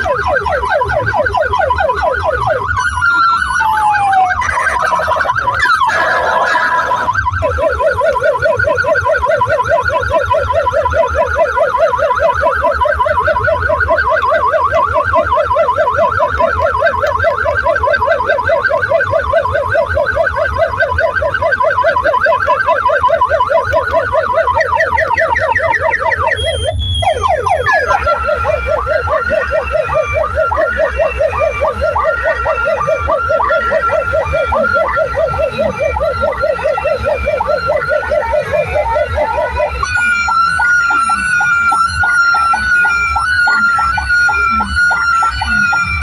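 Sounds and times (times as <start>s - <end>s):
siren-like warbling effect: 0.0s - 46.0s.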